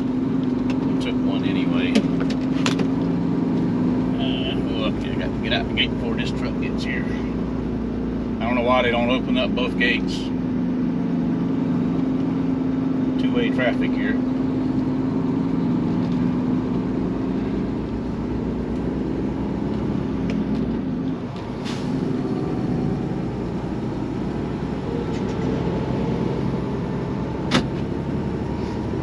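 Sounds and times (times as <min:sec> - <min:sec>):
truck diesel engine humming: 0:00.0 - 0:29.0.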